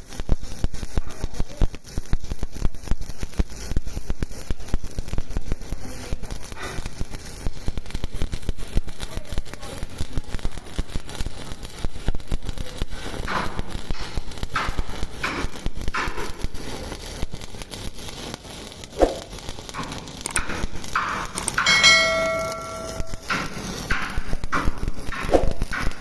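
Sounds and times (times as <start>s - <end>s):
welding arc crackling and sizzling: 0.0s - 26.0s.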